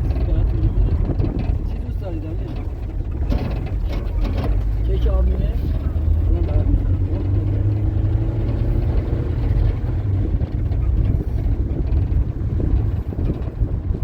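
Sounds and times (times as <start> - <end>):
vehicle rumbling on the move: 0.0 - 14.0.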